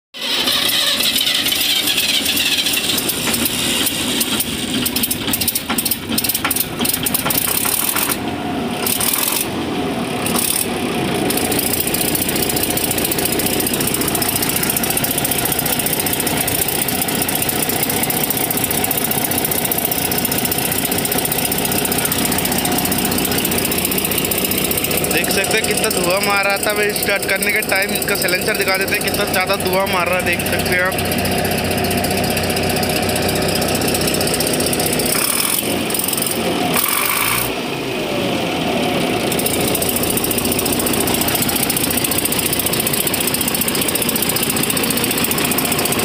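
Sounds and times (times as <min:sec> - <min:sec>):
diesel engine starting and idling: 0:00.1 - 0:46.0.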